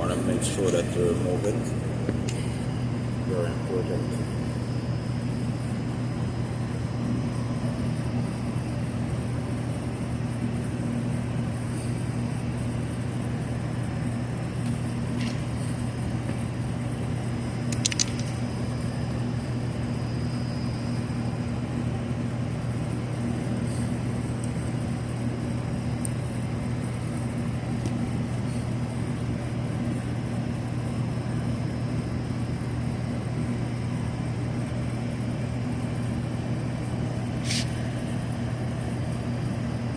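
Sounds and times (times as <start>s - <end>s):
machinery humming: 0.0s - 39.9s.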